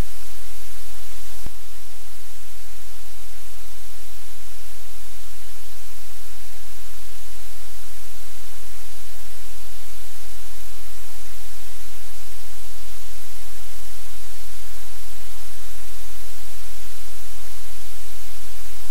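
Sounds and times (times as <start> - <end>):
static hiss: 0.0 - 18.9.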